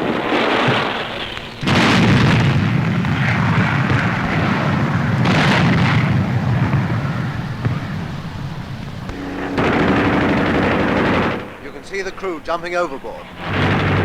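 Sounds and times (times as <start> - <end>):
explosion with heavy rumble: 0.0 - 14.0.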